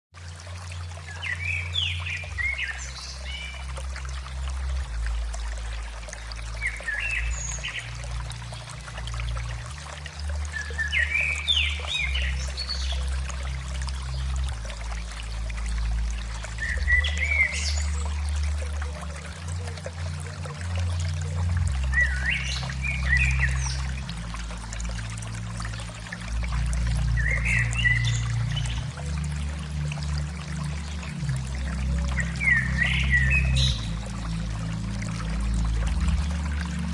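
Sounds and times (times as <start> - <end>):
trickle of running water: 0.2 - 36.9.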